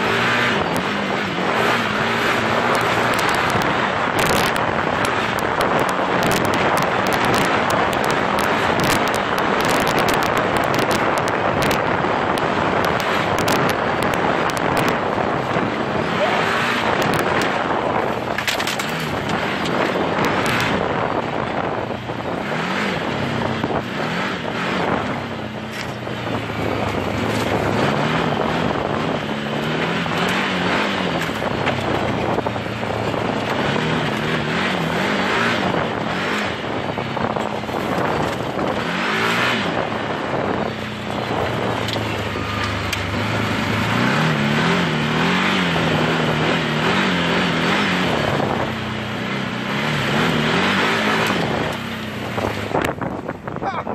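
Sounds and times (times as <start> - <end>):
turbocharged engine revving: 0.0 - 53.8
rush of driving: 0.0 - 53.9.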